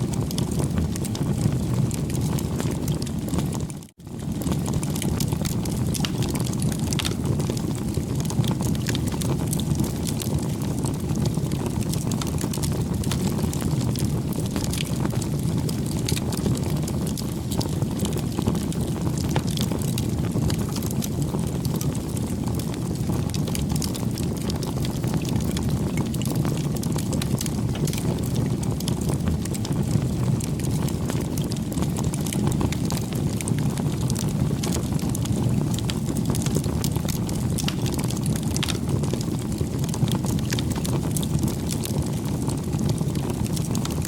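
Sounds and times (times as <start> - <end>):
fire crackling and popping: 0.0 - 44.0
flames rushing: 0.0 - 44.0.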